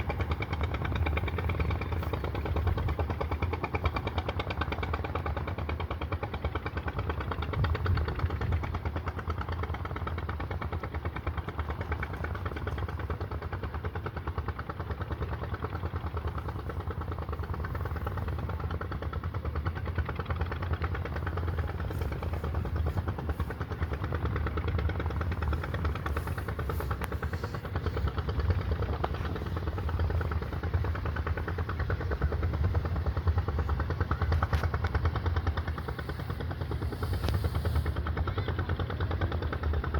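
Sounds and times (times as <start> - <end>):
small engine chugging: 0.0 - 39.9.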